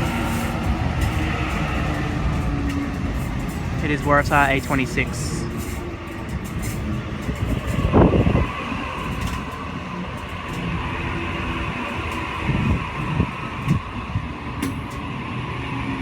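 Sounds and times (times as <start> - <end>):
electric train hum: 0.0 - 16.0.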